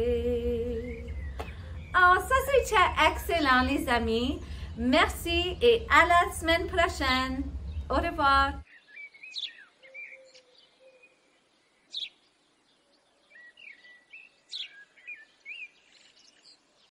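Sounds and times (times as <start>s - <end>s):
birds chirping and whistling: 0.8s - 8.0s, 8.6s - 16.7s.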